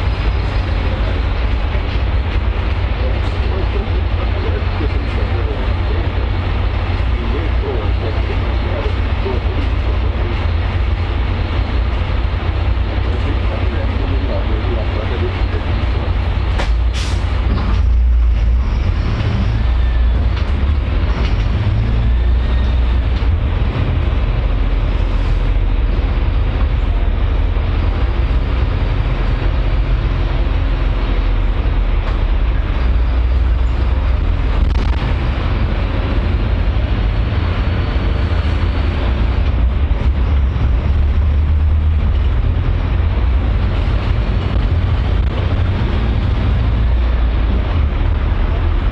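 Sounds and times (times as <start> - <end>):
bus engine low rumble: 0.0 - 48.9.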